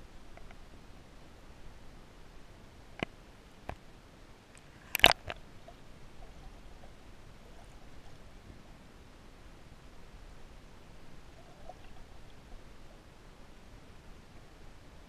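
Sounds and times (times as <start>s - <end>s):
muffled underwater hiss: 0.0s - 15.0s.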